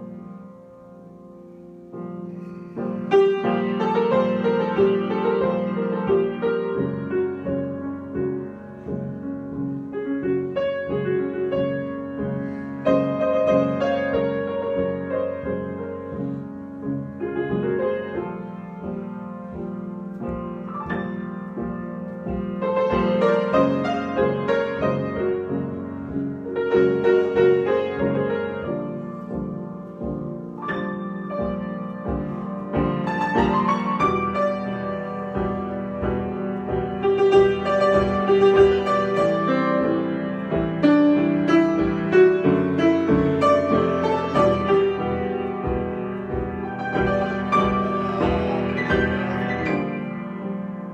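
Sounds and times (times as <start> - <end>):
solo piano improvisation: 0.0 - 50.9.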